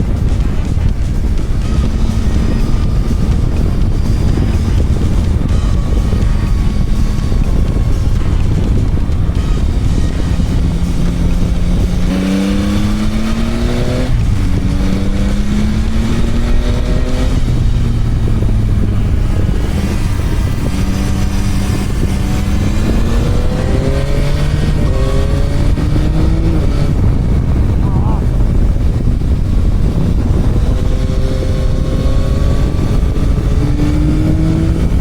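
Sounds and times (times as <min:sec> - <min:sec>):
motorcycle engine shifting gears: 0:00.0 - 0:35.0.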